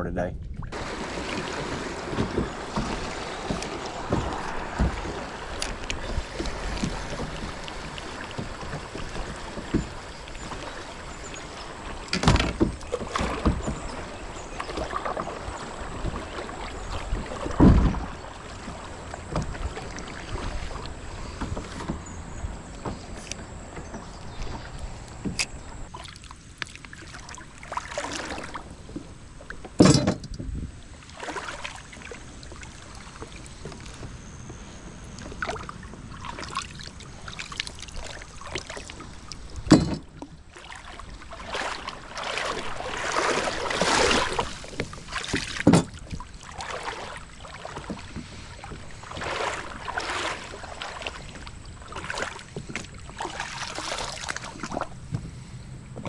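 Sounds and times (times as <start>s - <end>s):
paddle splashing in water: 0.6s - 56.0s.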